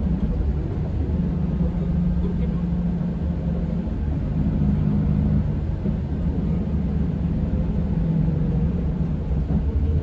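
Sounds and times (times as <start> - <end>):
diesel engine low rumble: 0.0 - 10.0.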